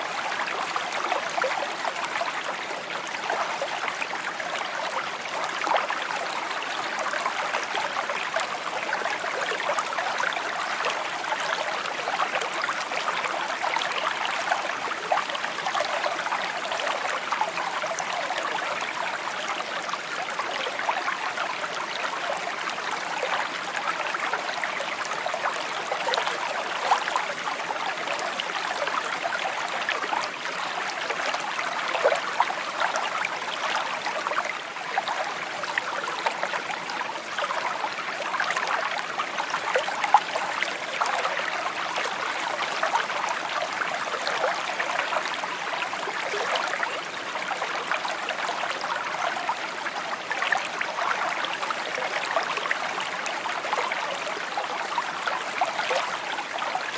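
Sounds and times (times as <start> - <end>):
stream babbling over stones: 0.0 - 56.9.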